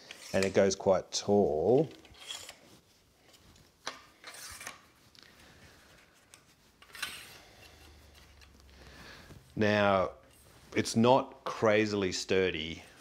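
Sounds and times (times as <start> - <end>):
metal tubes sliding and rubbing: 0.0 - 11.0.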